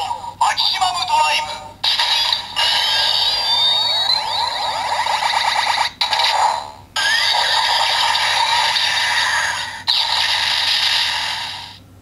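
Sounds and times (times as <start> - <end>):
toy belt electronic sound effects: 1.9 - 11.6.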